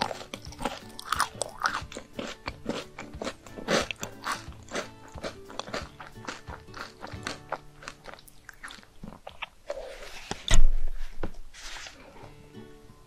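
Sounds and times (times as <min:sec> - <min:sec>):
wet crunchy chewing: 0:00.0 - 0:10.6.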